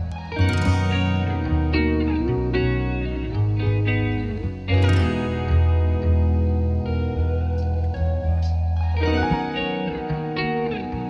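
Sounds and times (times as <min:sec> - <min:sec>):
plucked strings music: 0:00.0 - 0:11.0.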